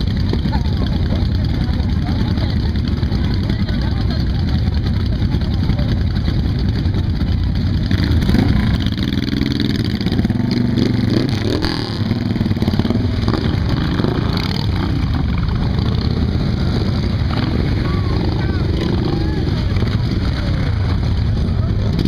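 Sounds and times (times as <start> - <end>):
motorcycle engine revving: 0.0 - 22.0
motorcycle engines rumbling: 0.0 - 22.0.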